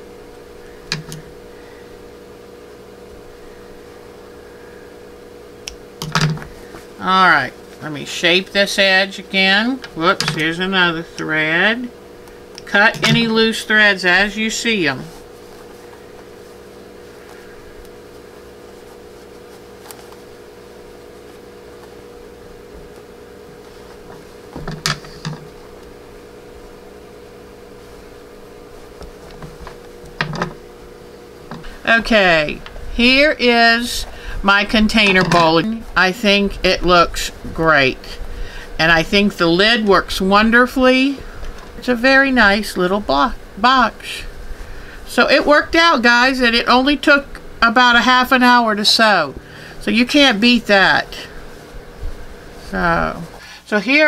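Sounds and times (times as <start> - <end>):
mechanical hum: 0.0 - 54.0.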